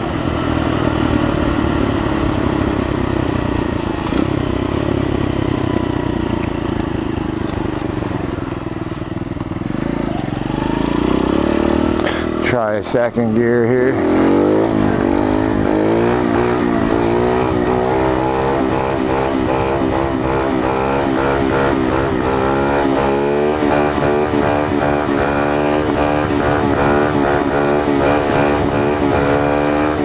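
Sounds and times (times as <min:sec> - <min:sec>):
motorcycle engine pulling hard: 0:00.0 - 0:30.0.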